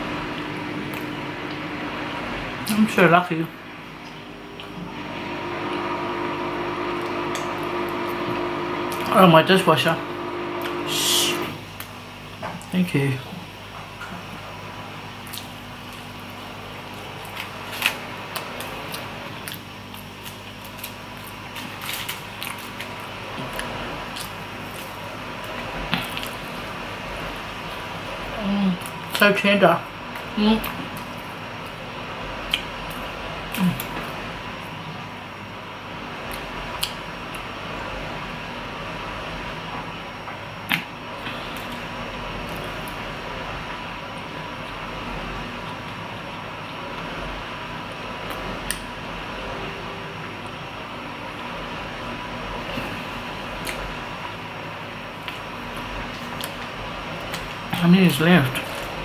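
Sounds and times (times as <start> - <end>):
dishwasher running: 0.0 - 59.0
steady low hum: 0.0 - 59.0.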